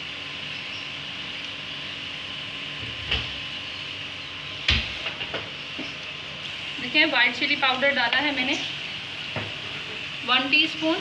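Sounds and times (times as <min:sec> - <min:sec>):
vegetables sizzling in pot: 0:00.0 - 0:11.0.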